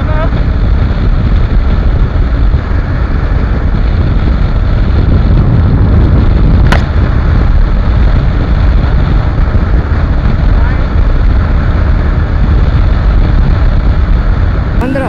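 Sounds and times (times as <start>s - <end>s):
motorcycle engine at full throttle: 0.0s - 15.0s
wind rushing over microphone: 0.0s - 15.0s.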